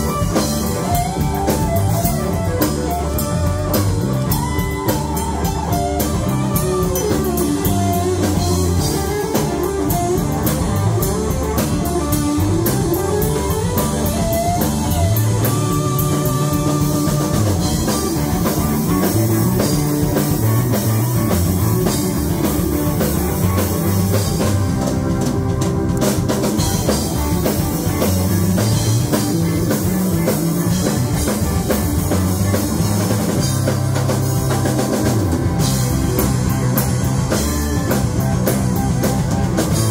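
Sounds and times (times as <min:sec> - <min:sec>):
rock band playing loud: 0:00.0 - 0:39.9.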